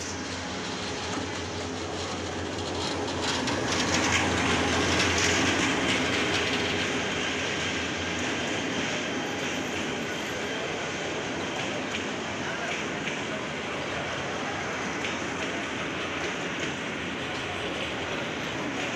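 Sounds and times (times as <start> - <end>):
diesel locomotive engine: 0.0 - 18.9
train wheels on rails: 0.0 - 18.9.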